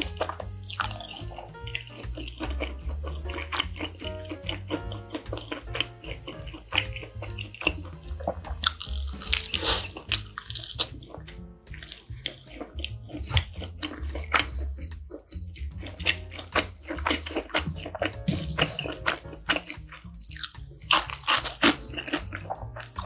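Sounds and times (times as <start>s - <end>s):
close chewing with wet clicks: 0.0s - 23.0s.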